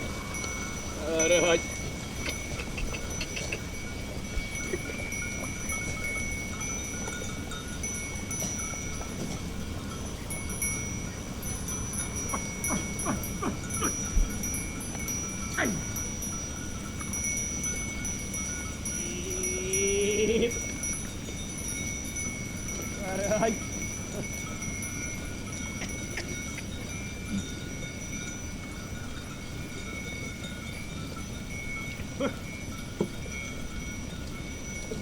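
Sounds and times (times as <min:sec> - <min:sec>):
goat bells ringing: 0:00.0 - 0:35.0
sharp bell clanks: 0:00.0 - 0:35.0.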